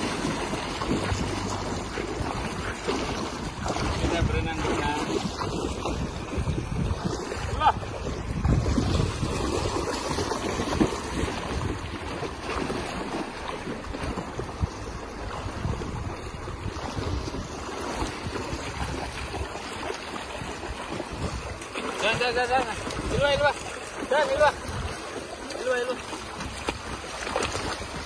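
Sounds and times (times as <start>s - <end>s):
wind rumble on microphone: 0.0s - 25.6s, 26.2s - 28.0s
river water rushing over riffle: 0.0s - 28.0s
splashing through water: 0.0s - 28.0s.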